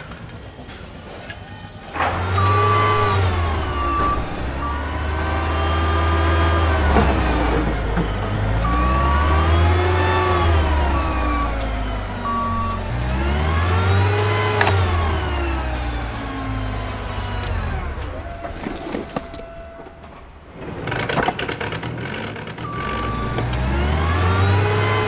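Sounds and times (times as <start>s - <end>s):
heavy vehicle engine revving: 1.8s - 25.0s
reversing beeper: 2.0s - 20.6s, 22.6s - 25.0s.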